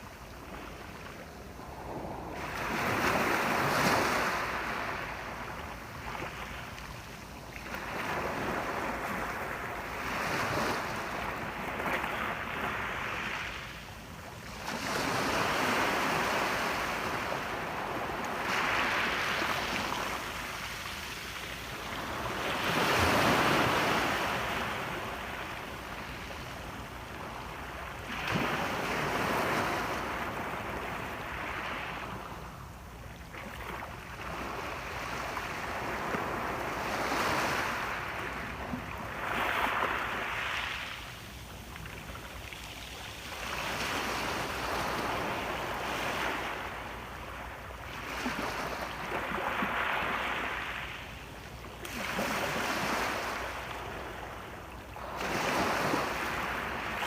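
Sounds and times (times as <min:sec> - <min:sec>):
waves breaking on shore: 0:00.4 - 0:57.0.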